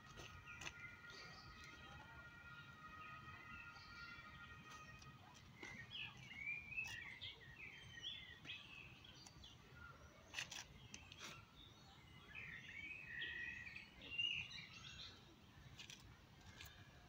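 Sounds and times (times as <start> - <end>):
faint songbirds chirping: 0.0 - 17.0.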